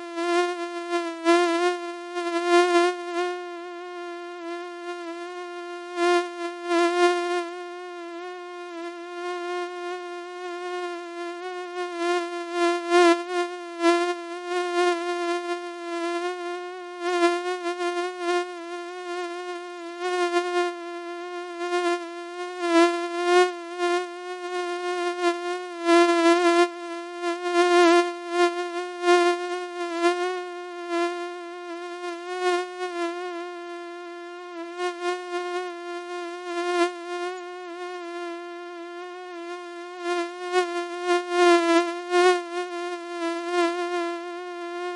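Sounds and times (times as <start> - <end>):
mosquito wing whine: 0.0 - 44.9.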